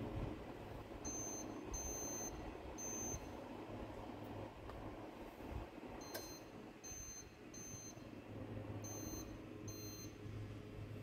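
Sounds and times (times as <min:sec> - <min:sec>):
air conditioner fan humming: 0:00.0 - 0:11.0.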